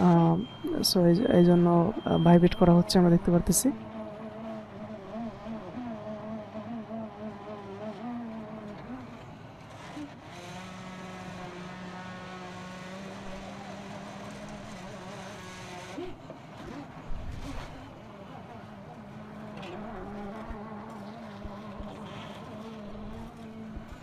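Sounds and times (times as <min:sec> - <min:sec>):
small engine humming: 0:00.0 - 0:24.0.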